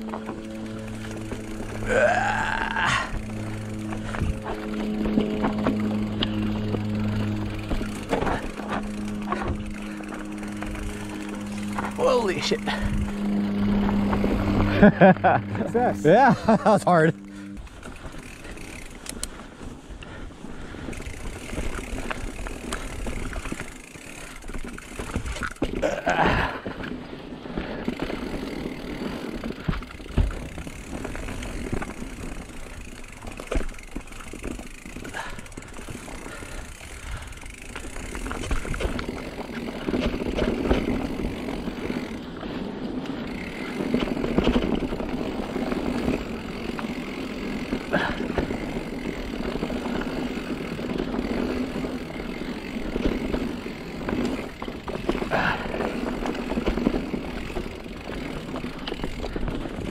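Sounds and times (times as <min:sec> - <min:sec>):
bike rattling: 0:00.0 - 0:59.9
bike tyres rumbling on dirt: 0:00.0 - 0:59.9.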